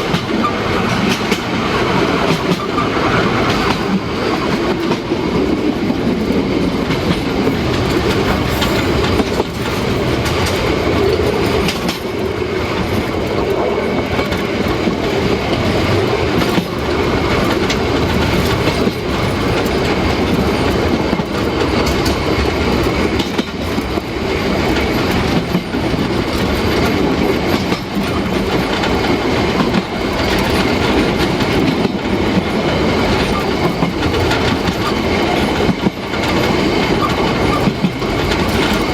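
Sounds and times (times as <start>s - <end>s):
steam train rumbling: 0.0s - 38.9s.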